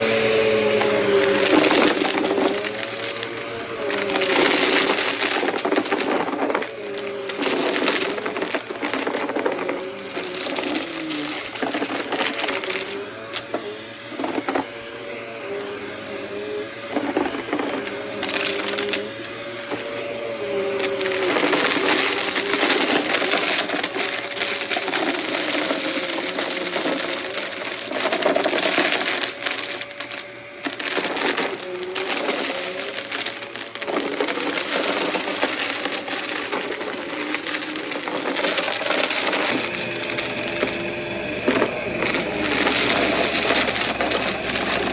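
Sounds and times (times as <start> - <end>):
debris rattling through nozzle: 0.0 - 44.9
vacuum cleaner motor hum: 0.0 - 44.9.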